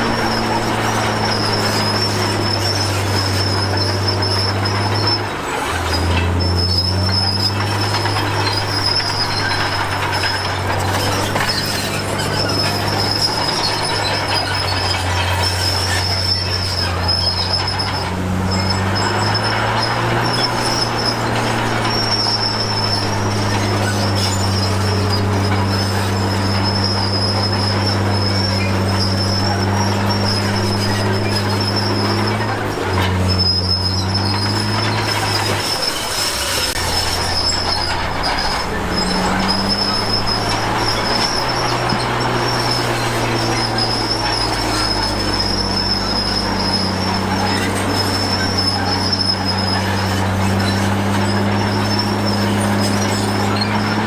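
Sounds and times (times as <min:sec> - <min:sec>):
bulldozer diesel engine running: 0:00.0 - 0:54.0
steel tracks squealing: 0:00.0 - 0:54.0.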